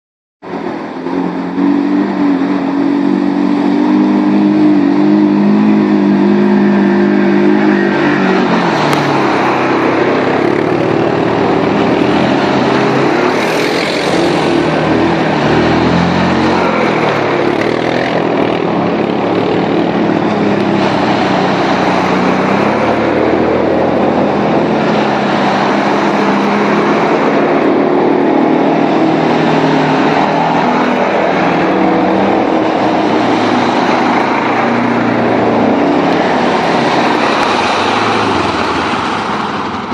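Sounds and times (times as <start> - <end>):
water splashing: 0.5 - 39.9
quad bike engine running: 0.7 - 39.9.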